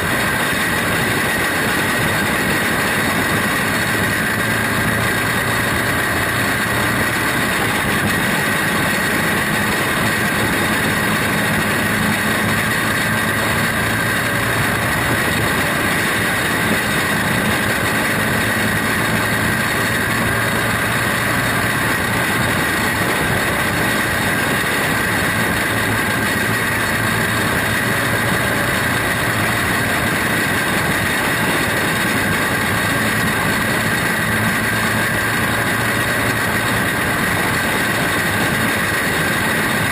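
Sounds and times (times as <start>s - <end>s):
constant rushing noise: 0.0s - 39.9s
small racing car engine: 0.0s - 39.9s.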